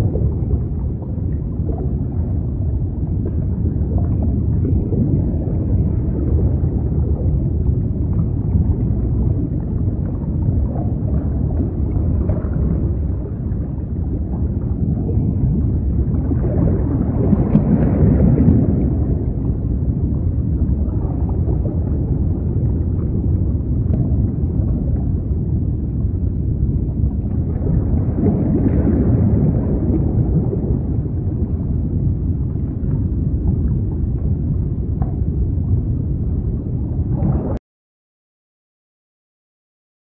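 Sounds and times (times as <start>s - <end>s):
underwater wash and rumble: 0.0s - 37.6s.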